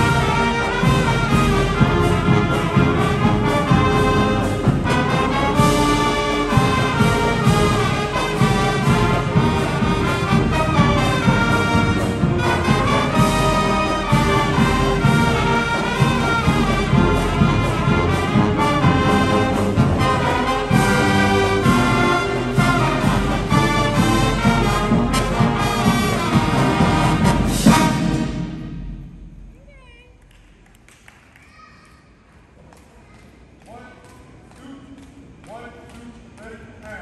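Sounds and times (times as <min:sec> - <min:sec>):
steady drum beat: 0:00.0 - 0:30.0
marching band playing: 0:00.0 - 0:30.1.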